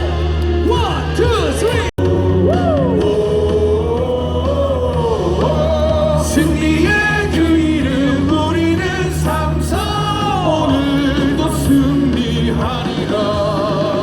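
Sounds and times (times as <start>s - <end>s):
song over loudspeakers: 0.0s - 14.0s.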